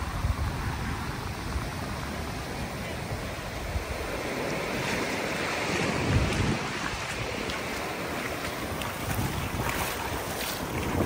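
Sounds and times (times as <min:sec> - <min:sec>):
surf washing up beach: 0:00.0 - 0:11.0
wind on microphone: 0:00.0 - 0:11.0.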